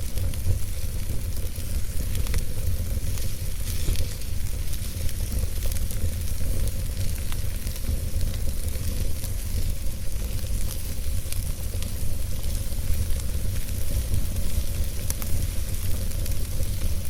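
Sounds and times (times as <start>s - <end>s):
fire crackling and popping: 0.0s - 17.0s
flames rumbling in fireplace: 0.0s - 17.0s.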